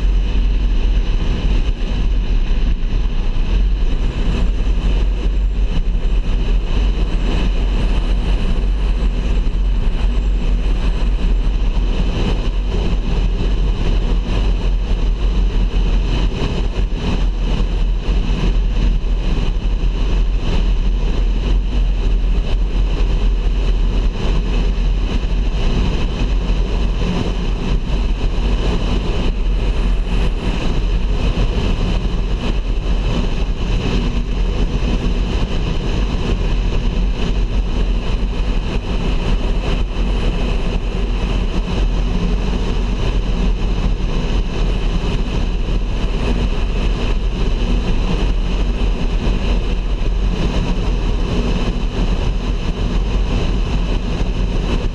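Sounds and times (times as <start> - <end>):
deep rumble: 0.0 - 54.9.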